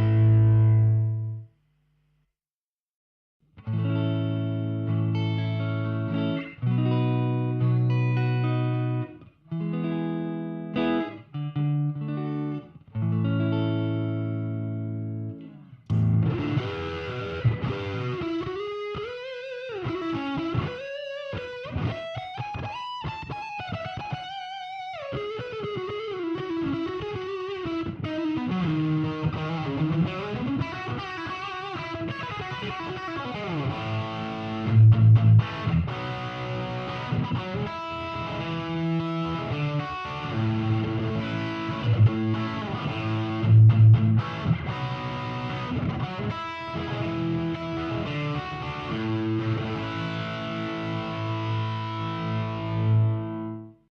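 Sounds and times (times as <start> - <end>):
electric guitar lead line: 0.0 - 1.5, 3.6 - 53.8.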